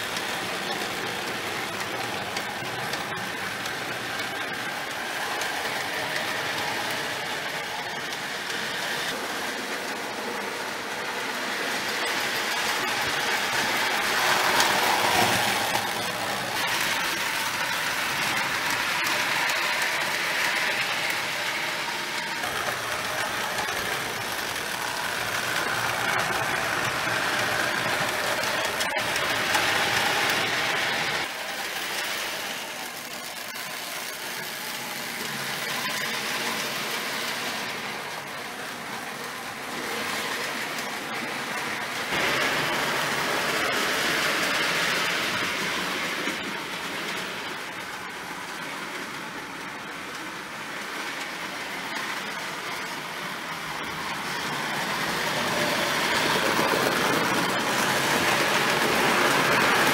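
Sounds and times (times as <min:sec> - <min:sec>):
toy train rattling on track: 0:00.0 - 0:59.9.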